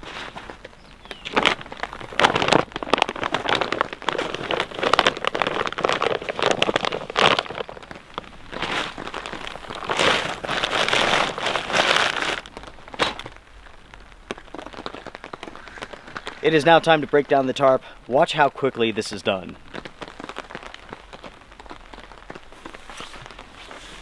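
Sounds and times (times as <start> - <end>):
camping gear rustling and crinkling: 0.0 - 24.0.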